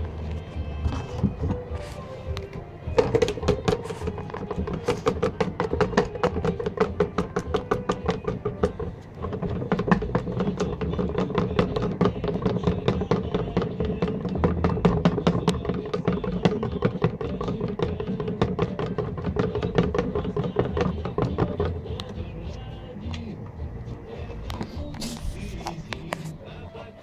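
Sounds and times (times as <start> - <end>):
stick scraping plastic tub: 0.0 - 26.5
background music: 0.0 - 27.0.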